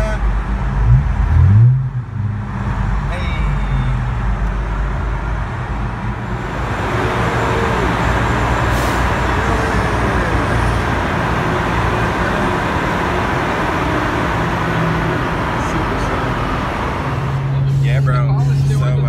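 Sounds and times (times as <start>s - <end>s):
car tyre and engine noise: 0.0s - 19.0s.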